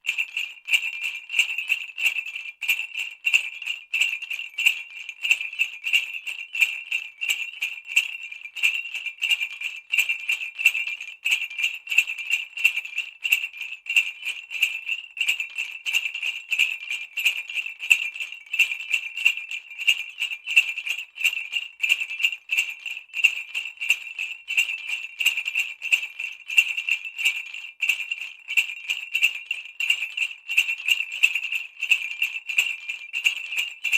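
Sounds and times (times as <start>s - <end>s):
sleigh bells jingling: 0.0s - 33.9s.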